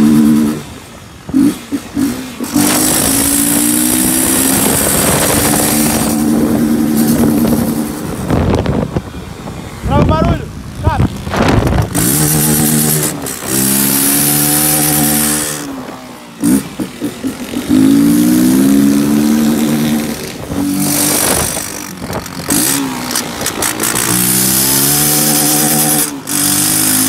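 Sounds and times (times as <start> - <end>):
motorcycle engine revving: 0.0 - 9.1, 10.6 - 27.0.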